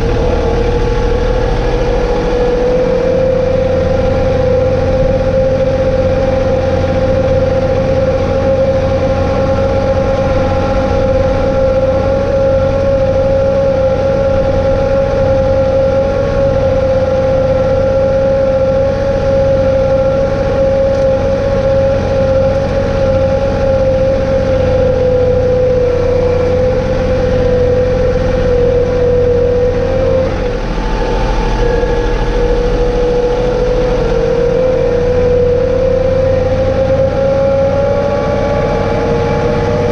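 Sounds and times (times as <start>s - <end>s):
strong steady whine: 0.0s - 39.9s
tractor engine running: 0.0s - 39.9s.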